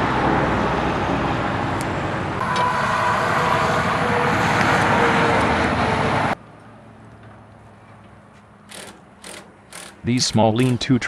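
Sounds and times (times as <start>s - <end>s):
outdoor rushing noise: 0.0s - 11.0s.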